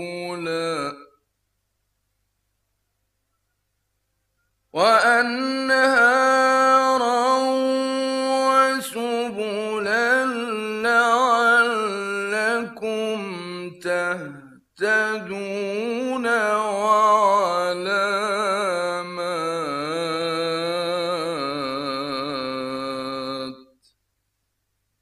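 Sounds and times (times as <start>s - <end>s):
man chanting melodically: 0.0s - 1.2s, 4.8s - 23.8s.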